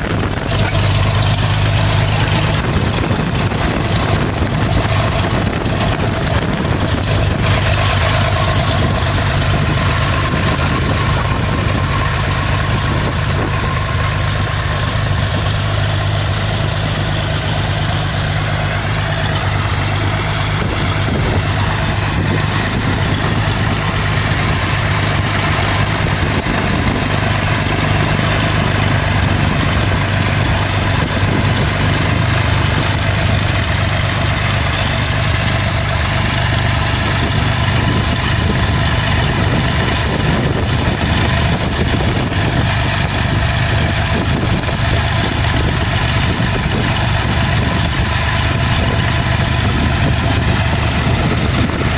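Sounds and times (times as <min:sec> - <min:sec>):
aircraft piston engine running: 0:00.0 - 0:51.9.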